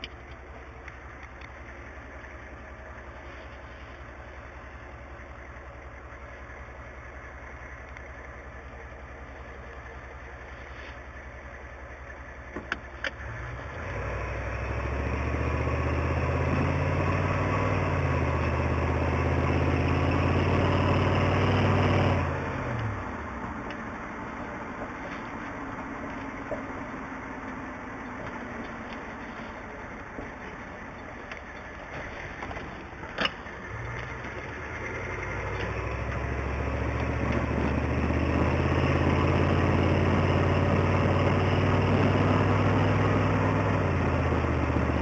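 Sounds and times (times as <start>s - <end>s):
diesel engine idling and accelerating: 0.0s - 45.0s.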